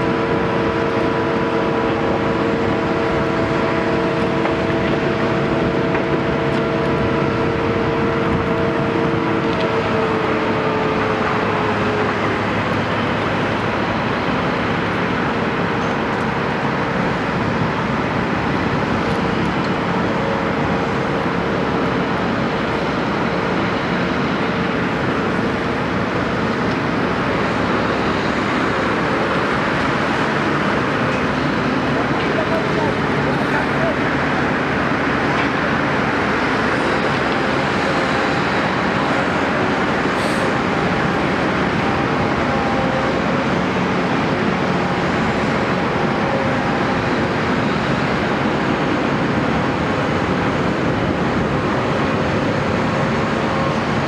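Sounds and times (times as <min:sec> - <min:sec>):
excavator engine and hydraulics: 0:00.0 - 0:54.0
multi-tone whine: 0:00.0 - 0:54.0.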